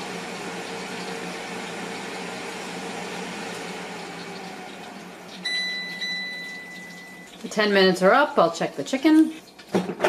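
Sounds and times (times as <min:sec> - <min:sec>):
air fryer fan whooshing: 0:00.0 - 0:08.2
chicken wings sizzling: 0:00.0 - 0:09.8.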